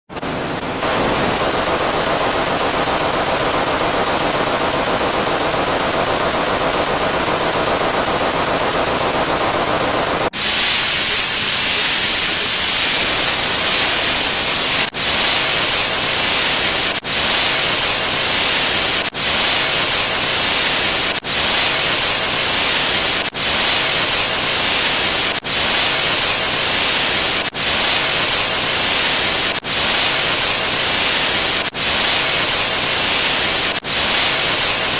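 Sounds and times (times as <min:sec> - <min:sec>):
loud static hiss: 0:00.1 - 0:34.9.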